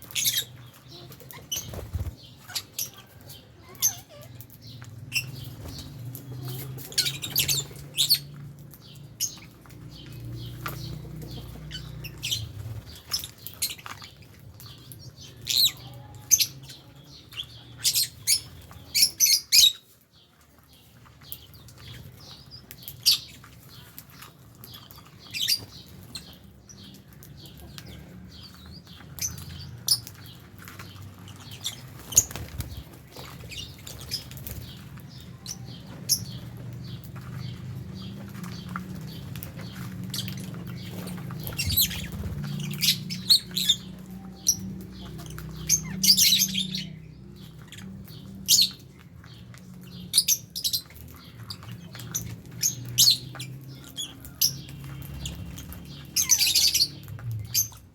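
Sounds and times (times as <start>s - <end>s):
lovebirds chirping: 0.0s - 57.9s.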